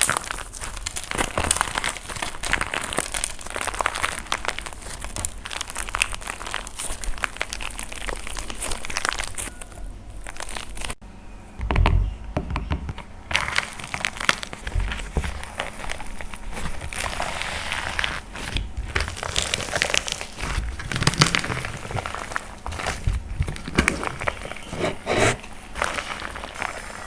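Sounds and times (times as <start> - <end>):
dried clay crushed and crumbling: 0.0 - 11.0, 11.6 - 27.0.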